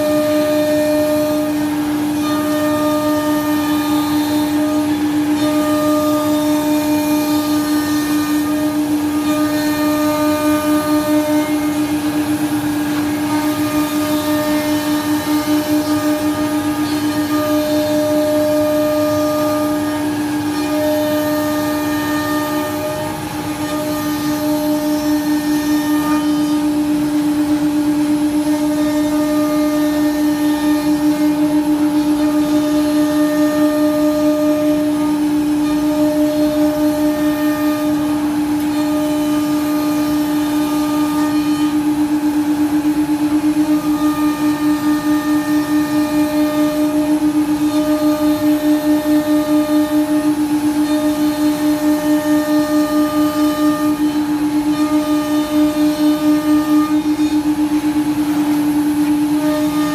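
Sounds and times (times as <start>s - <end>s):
wood router spindle hum: 0.0s - 59.9s.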